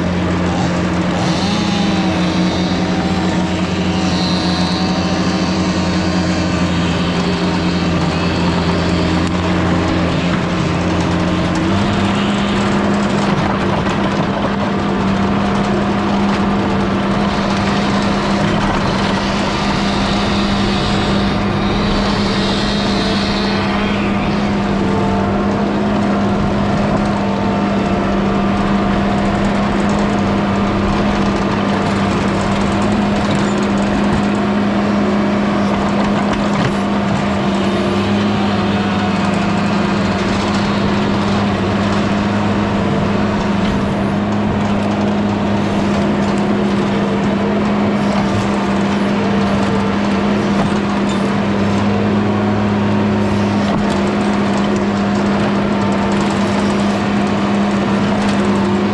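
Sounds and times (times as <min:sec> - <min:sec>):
skid steer engine running: 0:00.0 - 0:58.9.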